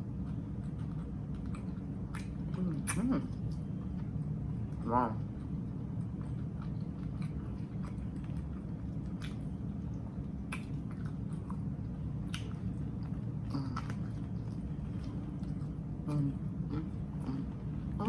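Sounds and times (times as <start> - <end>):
low hum: 0.0 - 18.0
person chewing sandwich: 0.0 - 18.0.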